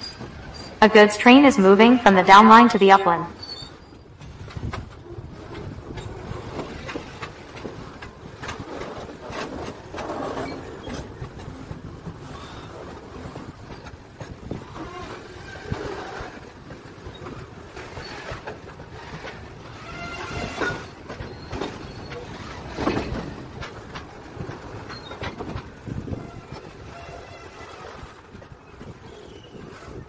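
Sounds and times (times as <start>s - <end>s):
train wheels clicking over rail joints: 0.0s - 0.8s, 3.4s - 30.0s
train rumble: 0.0s - 30.0s.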